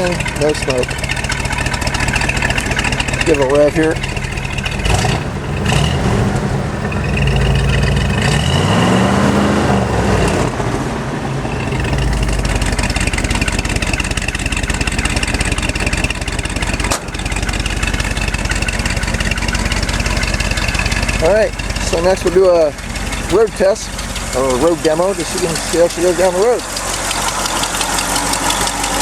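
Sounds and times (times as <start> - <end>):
engine revving and idling: 0.0 - 29.0.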